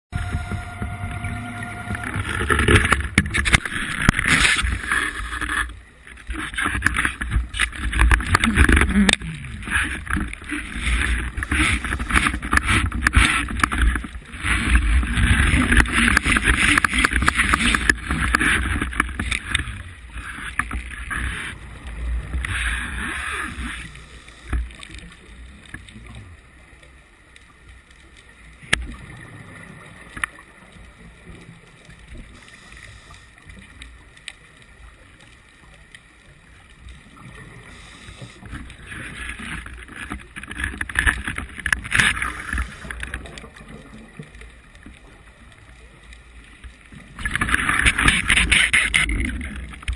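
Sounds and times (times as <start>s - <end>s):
underwater rushing and bubbling: 0.1s - 49.9s.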